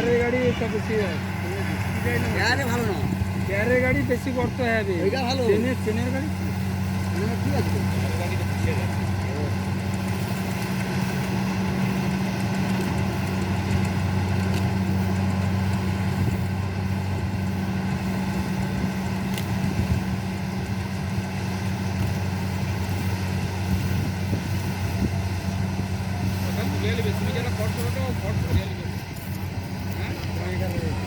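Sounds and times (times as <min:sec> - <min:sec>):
harvester engine running: 0:00.0 - 0:31.0.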